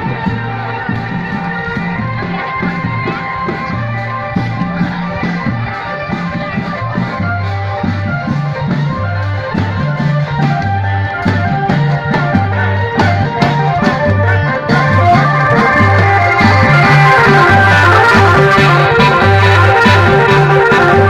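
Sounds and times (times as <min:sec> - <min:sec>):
drum and cymbal beats: 0:00.0 - 0:21.0
repeating bass line: 0:00.0 - 0:21.0.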